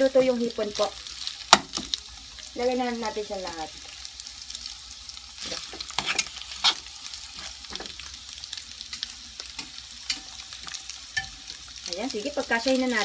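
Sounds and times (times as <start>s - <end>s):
shrimp sizzling in hot oil: 0.0s - 13.0s.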